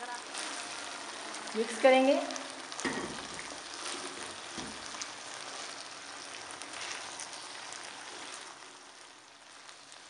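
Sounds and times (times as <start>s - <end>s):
pasta sizzling in frying pan: 0.0s - 10.0s.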